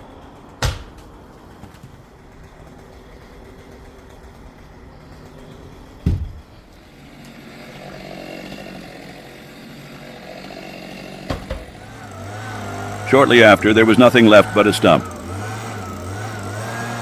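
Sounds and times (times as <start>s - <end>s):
chainsaw cutting: 2.0s - 6.0s, 6.6s - 17.0s.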